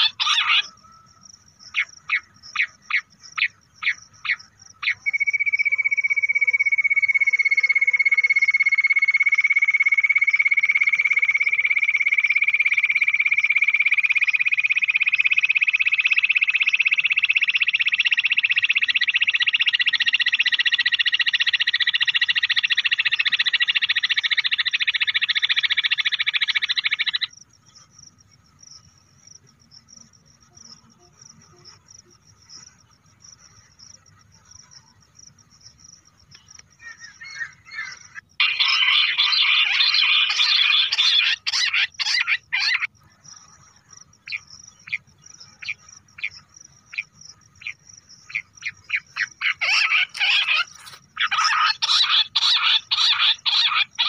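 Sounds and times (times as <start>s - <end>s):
quail call with fast trill: 0.0s - 27.3s, 36.8s - 43.0s, 44.2s - 54.0s.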